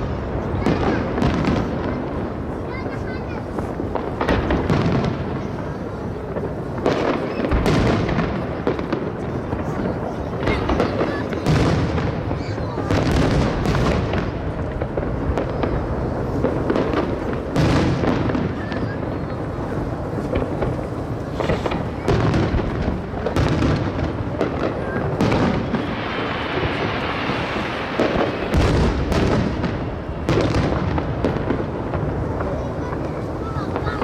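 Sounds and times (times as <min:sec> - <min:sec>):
fireworks booming: 0:00.0 - 0:34.0.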